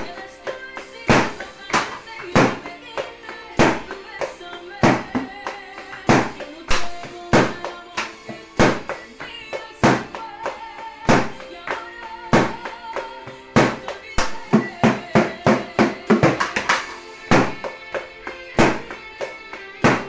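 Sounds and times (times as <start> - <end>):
recorded song: 0.0 - 20.0
sticks hitting paint buckets: 0.0 - 20.0.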